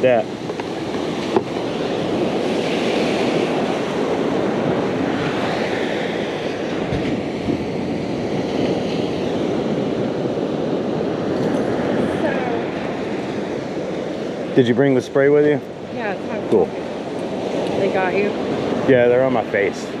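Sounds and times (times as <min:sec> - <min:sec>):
surf washing on beach: 0:00.0 - 0:20.0.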